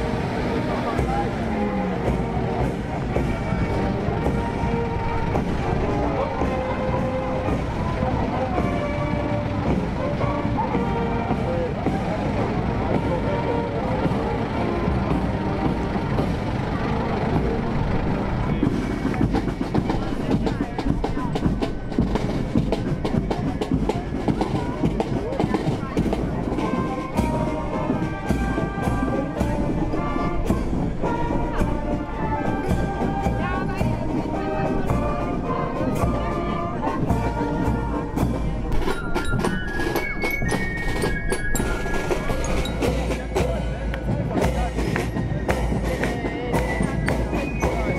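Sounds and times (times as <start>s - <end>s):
bass drum and drums beat: 0.0s - 47.9s
crowd chatter: 0.0s - 47.9s
marching band playing: 0.0s - 47.9s.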